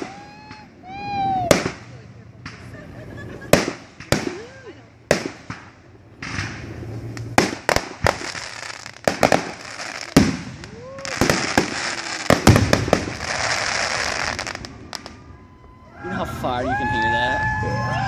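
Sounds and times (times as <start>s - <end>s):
fireworks bangs: 0.0s - 15.8s
dense steady hiss: 0.0s - 18.0s.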